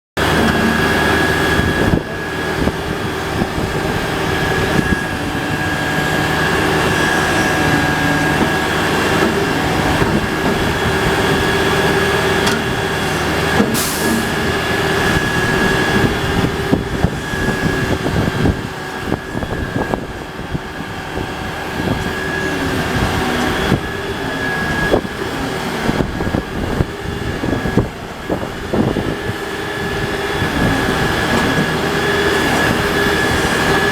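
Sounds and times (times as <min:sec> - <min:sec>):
backhoe engine drone: 0:00.2 - 0:33.9.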